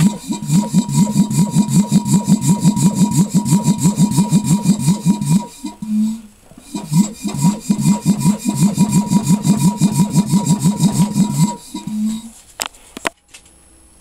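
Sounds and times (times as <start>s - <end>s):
piston compressor running: 0.0s - 12.4s.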